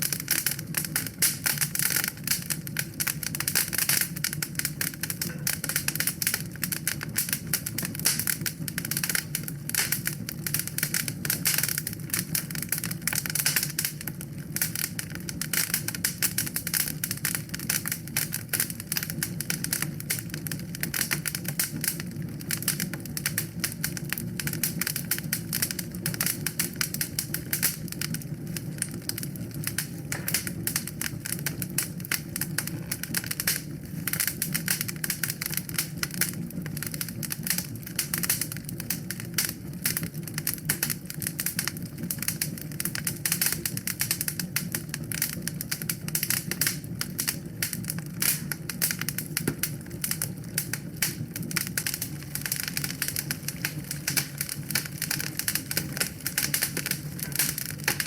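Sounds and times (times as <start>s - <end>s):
low rumble of burning: 0.0s - 58.0s
wood fire pops and snaps: 0.0s - 58.0s.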